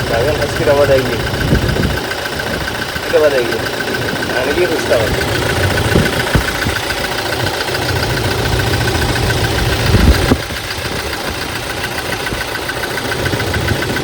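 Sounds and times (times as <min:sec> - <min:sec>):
diesel engine idling unevenly: 0:00.0 - 0:14.0.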